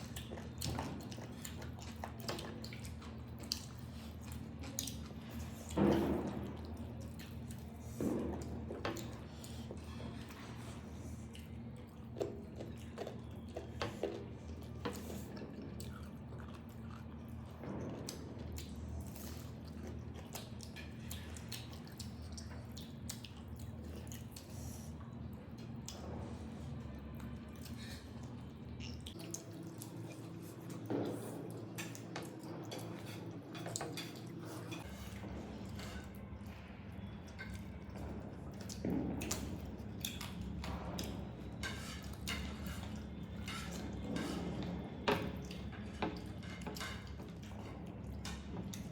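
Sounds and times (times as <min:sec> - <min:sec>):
chewing and wet squishing: 0:00.0 - 0:48.9.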